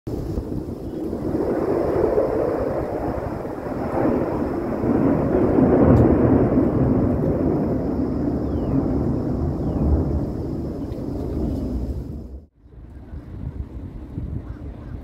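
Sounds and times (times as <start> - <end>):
jet aircraft roar: 0.1 - 15.0.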